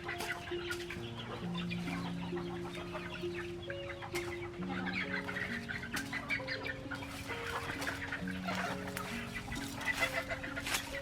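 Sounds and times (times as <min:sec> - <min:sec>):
chickens clucking: 0:00.0 - 0:11.0
slow music with held notes: 0:00.0 - 0:11.0.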